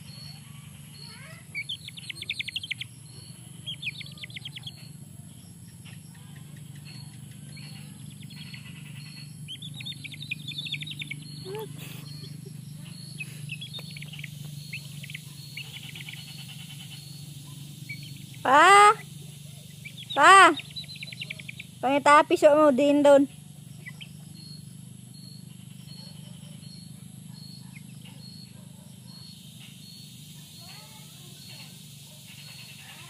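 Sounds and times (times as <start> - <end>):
birds chirping trills: 0.0 - 33.0
steady low hum: 0.0 - 33.0.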